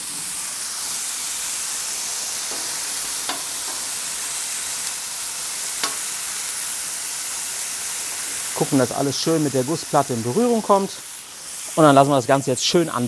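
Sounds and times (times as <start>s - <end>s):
vegetables sizzling on a griddle: 0.0s - 13.0s.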